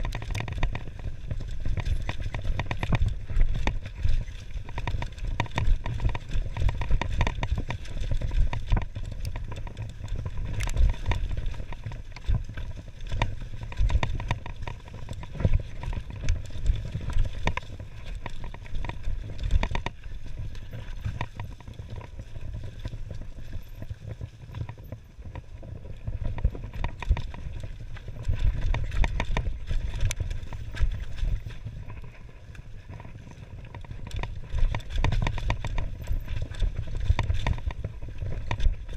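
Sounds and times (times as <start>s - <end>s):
mountain bike rattling: 0.0s - 38.9s
wind buffeting microphone: 0.0s - 38.9s.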